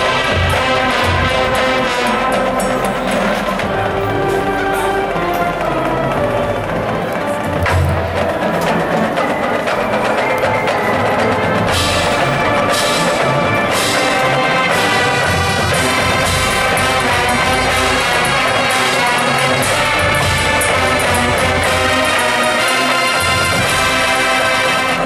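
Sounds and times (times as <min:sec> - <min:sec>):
brass holding chords: 0:00.0 - 0:25.0
drumline percussion: 0:00.0 - 0:25.0
marching band playing: 0:00.0 - 0:25.0.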